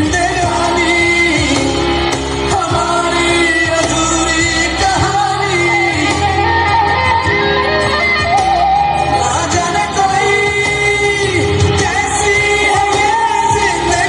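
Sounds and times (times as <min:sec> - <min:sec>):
film song with sung melody: 0:00.0 - 0:14.0.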